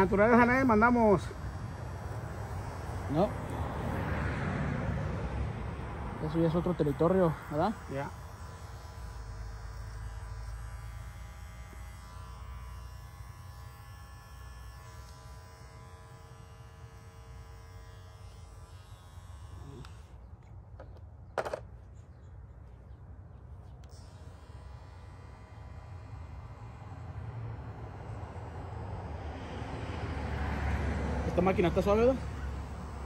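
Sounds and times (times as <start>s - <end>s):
electric hair clipper buzzing: 0.0s - 20.2s, 23.8s - 33.0s.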